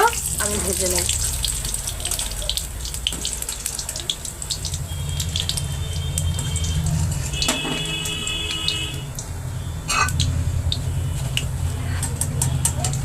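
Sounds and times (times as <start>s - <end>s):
fritters deep-frying in oil: 0.0s - 13.0s.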